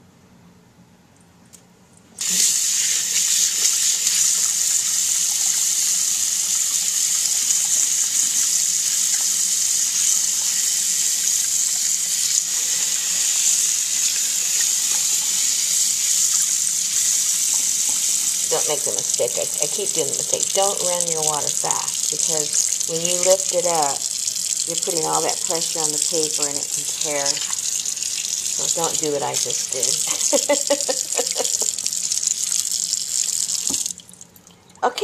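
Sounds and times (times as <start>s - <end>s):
water tap running into sink: 2.2s - 34.5s.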